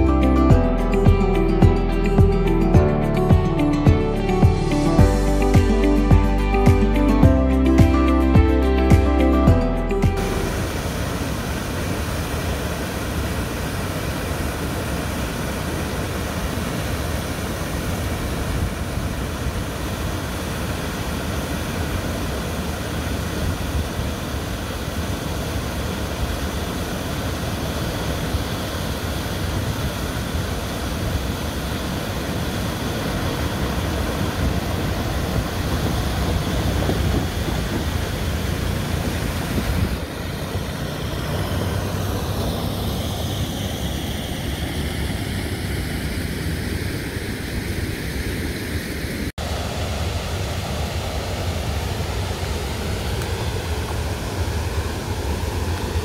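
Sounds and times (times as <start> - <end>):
car road and engine noise: 0.0 - 56.0.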